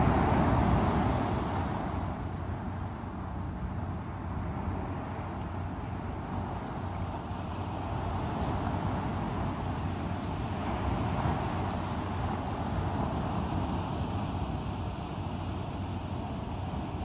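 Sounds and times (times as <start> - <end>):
surf washing: 0.0 - 17.0.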